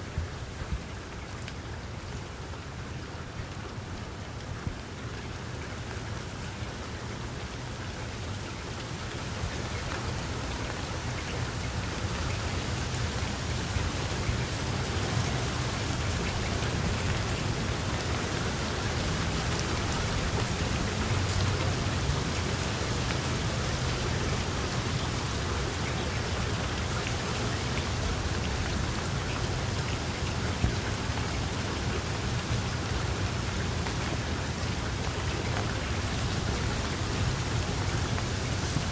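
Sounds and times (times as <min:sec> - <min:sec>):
heavy rainfall: 0:00.0 - 0:38.9.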